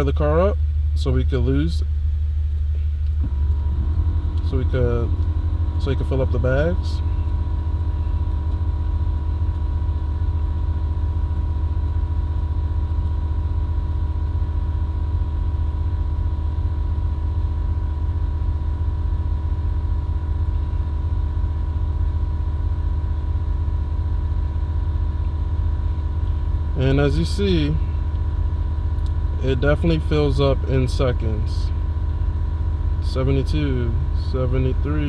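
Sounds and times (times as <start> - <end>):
air compressors droning: 2.7 - 35.0.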